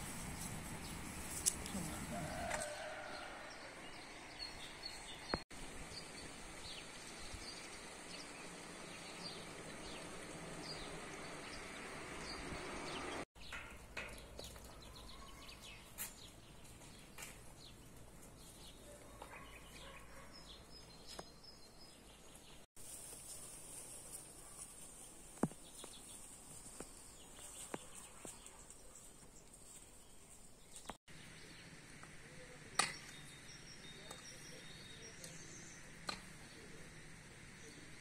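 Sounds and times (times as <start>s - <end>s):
birds chirping: 0.0s - 22.7s, 25.4s - 38.0s.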